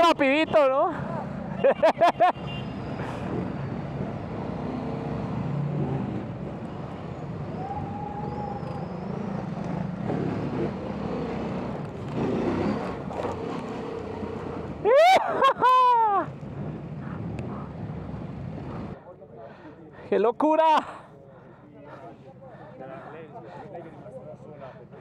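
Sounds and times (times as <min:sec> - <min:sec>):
vehicle engines humming: 0:00.0 - 0:25.0.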